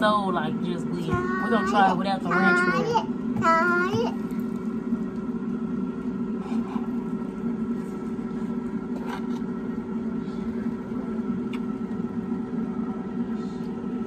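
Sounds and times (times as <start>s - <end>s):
air fryer humming: 0.0s - 14.0s.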